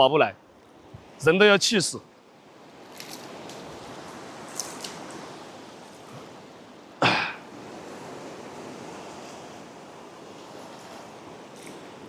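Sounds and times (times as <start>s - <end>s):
river water rushing: 1.2s - 12.0s.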